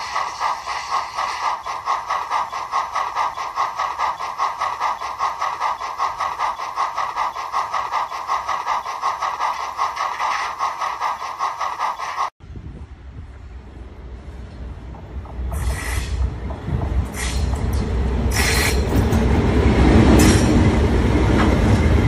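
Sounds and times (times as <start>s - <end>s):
model steam locomotive chuffing: 0.0s - 12.3s, 14.9s - 20.7s.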